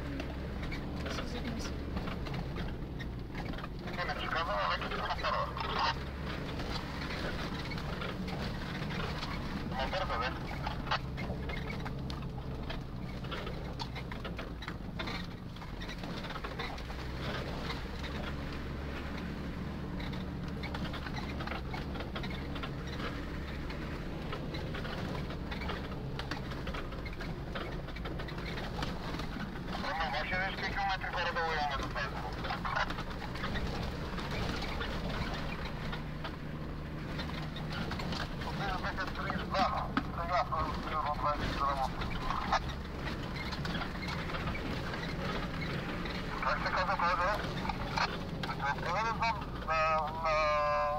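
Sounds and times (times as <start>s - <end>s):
body and dashboard rattles: 0.0s - 50.9s
low engine drone: 0.0s - 50.9s.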